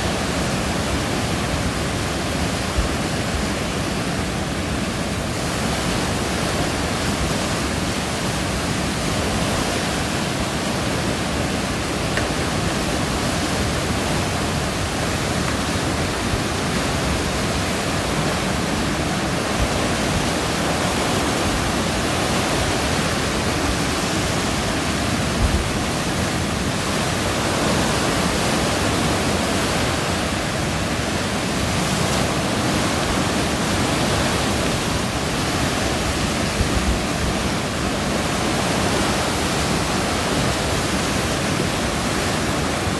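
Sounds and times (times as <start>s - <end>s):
rushing water: 0.0s - 42.9s.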